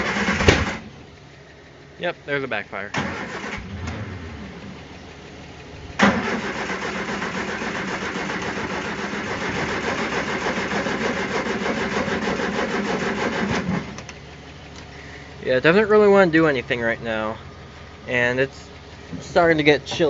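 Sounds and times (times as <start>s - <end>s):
car engine cranking by starter: 0.0s - 1.6s, 2.8s - 20.0s.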